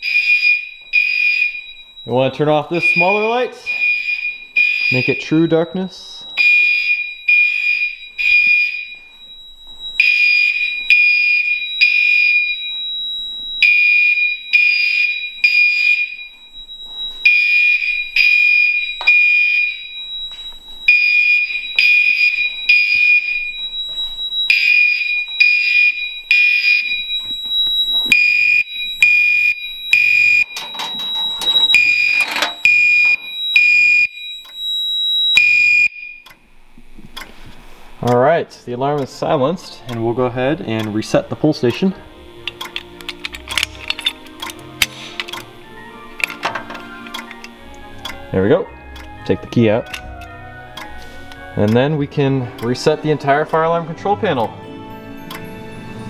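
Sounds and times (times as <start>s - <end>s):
fire alarm horns blasting: 0.0s - 36.6s, 38.7s - 56.0s.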